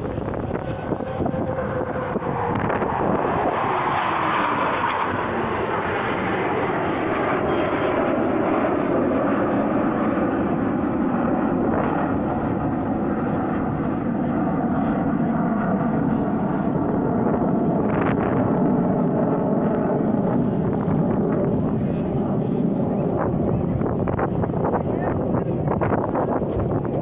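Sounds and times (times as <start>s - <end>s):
airplane flying past: 0.0s - 27.0s.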